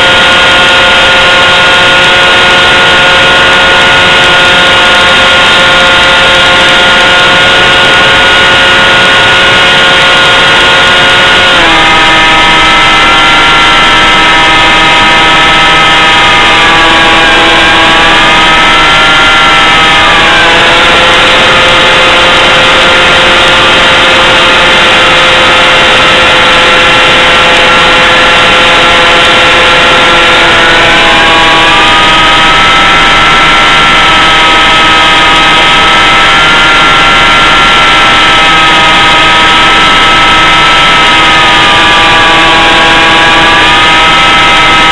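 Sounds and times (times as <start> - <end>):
model plane motor whining: 0.0 - 44.9.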